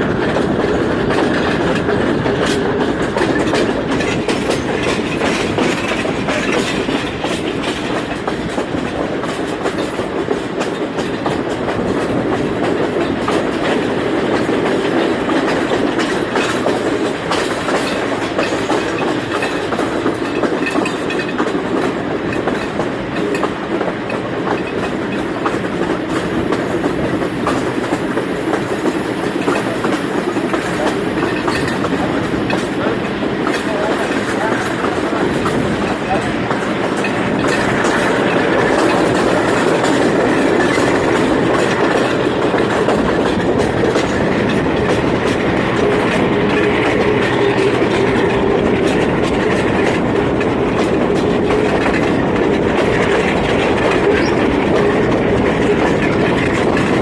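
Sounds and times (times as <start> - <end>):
train rumbling along track: 0.0 - 57.0
wheels clicking over rail joints: 0.1 - 57.0.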